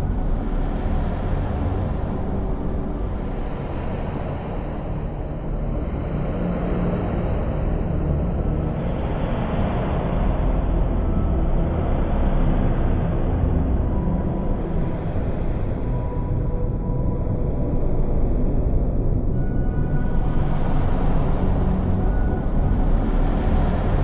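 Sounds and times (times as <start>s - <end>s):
dark rumbling electronic drone: 0.0s - 24.0s.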